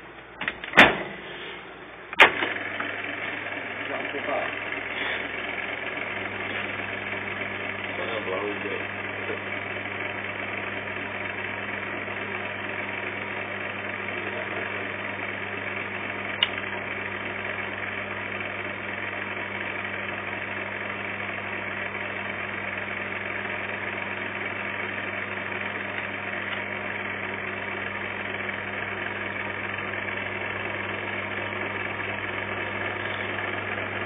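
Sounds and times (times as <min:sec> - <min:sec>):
microwave oven humming: 0:00.0 - 0:34.0.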